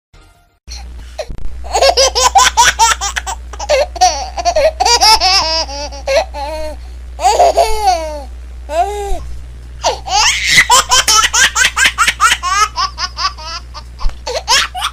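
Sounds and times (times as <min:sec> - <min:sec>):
steady low hum: 0:00.7 - 0:14.9
baby laughing: 0:01.7 - 0:08.8, 0:09.8 - 0:14.9.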